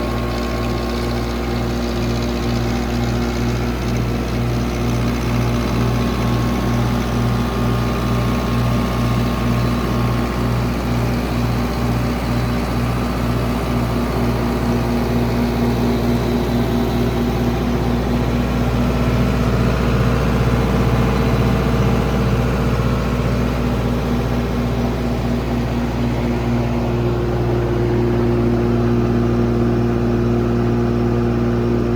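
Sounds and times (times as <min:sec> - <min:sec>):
diesel generator droning: 0:00.0 - 0:31.9.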